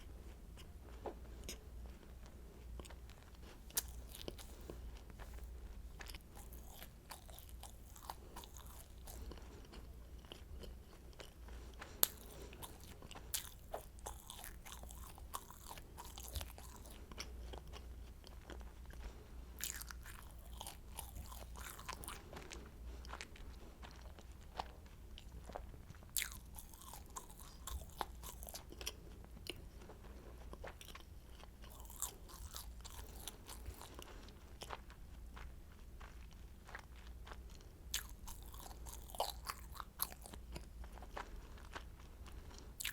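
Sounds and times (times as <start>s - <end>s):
chewing crunchy pastry: 0.0s - 42.9s.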